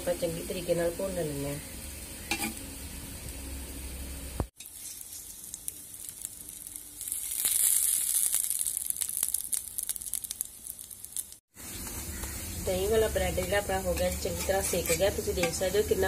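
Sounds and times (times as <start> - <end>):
bread sizzling and crackling in oil: 0.0 - 16.0.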